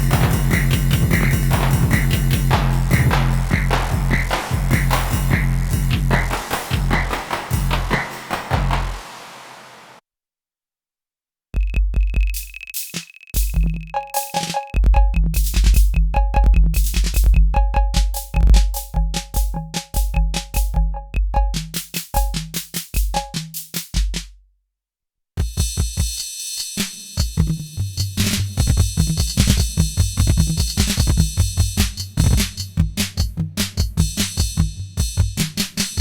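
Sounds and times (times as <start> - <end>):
electronic drum kit rhythm: 0.0 - 9.9, 11.6 - 24.3, 25.4 - 36.0.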